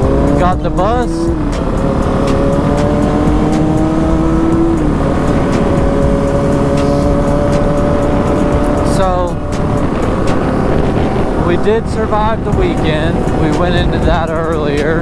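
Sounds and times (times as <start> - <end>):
dirt bike engine running: 0.0 - 15.0
wind rushing over microphone: 0.0 - 15.0.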